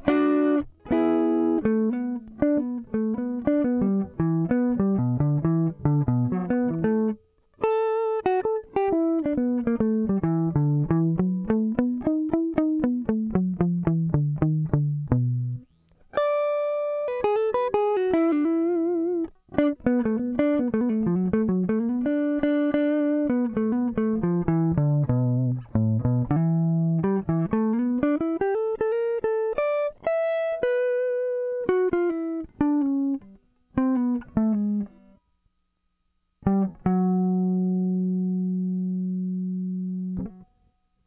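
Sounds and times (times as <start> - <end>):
electric guitar plucked notes: 0.0 - 35.2, 36.4 - 40.7.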